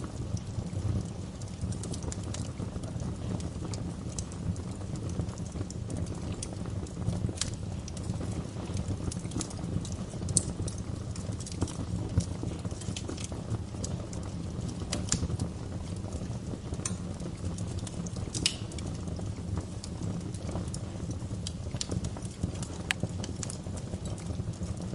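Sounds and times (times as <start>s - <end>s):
low rumble of flames: 0.0s - 24.9s
wood fire crackling and popping: 0.0s - 24.9s.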